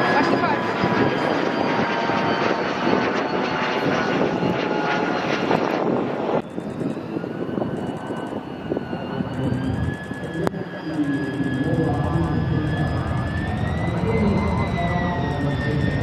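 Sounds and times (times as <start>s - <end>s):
jet engine flying overhead: 0.0s - 16.0s.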